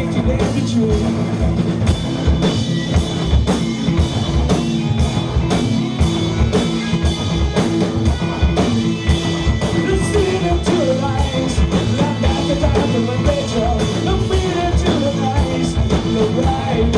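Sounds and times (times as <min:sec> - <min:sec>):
drum kit beat: 0:00.0 - 0:16.9
rock band playing: 0:00.0 - 0:16.9.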